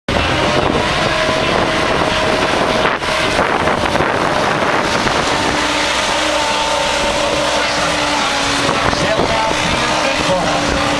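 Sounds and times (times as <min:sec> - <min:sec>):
lower engine note: 0:00.1 - 0:10.9
tractor engine running: 0:00.1 - 0:10.9
wind noise on microphone: 0:00.1 - 0:10.9.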